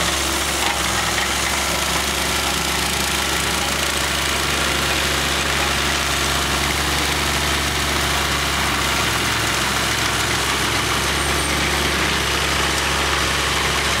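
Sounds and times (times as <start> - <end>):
stump grinder engine running: 0.0 - 14.0.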